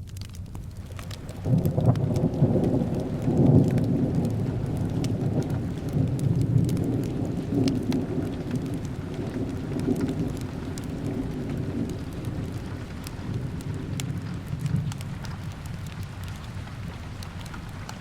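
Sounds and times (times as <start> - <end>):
steady rain: 0.0 - 18.0
wood fire crackling: 0.0 - 18.0
thunder rumbling: 0.6 - 18.0.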